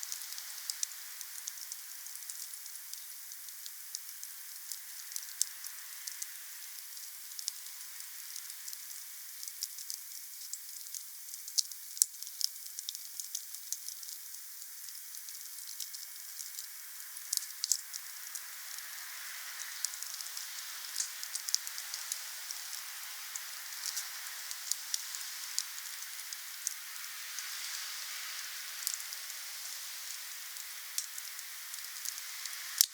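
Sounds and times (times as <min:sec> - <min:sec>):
wood fire crackling: 0:00.0 - 0:18.8, 0:19.4 - 0:32.9
steady hiss: 0:00.0 - 0:32.9.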